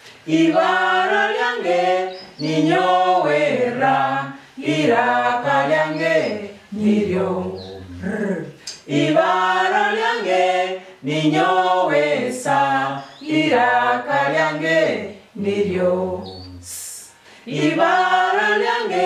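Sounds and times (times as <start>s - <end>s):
group chanting in unison: 0.2s - 19.0s.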